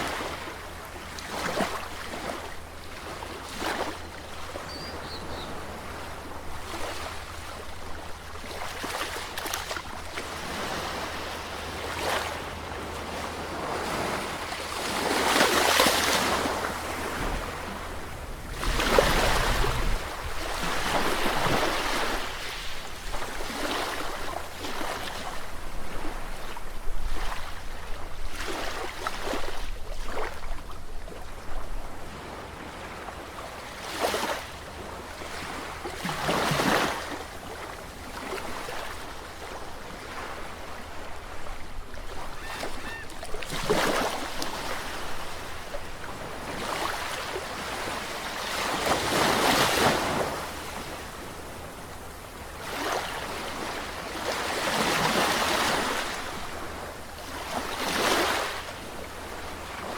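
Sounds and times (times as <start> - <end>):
sea waves breaking: 0.0 - 30.5, 32.1 - 59.9.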